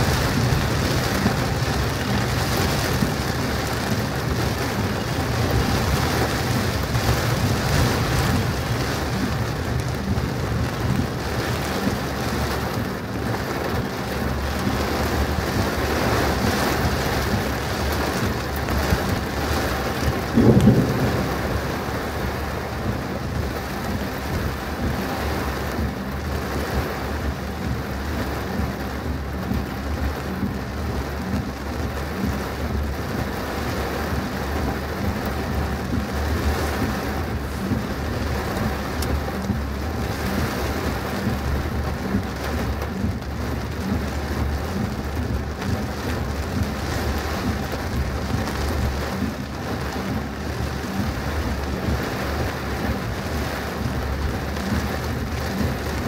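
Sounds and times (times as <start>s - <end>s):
heavy rain drumming on a car: 0.0s - 56.0s.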